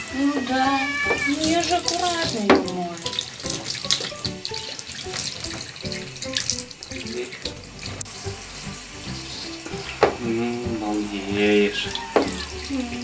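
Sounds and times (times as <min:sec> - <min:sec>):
shower spray on fur: 0:00.0 - 0:13.0
water splashing into sink: 0:00.0 - 0:13.0.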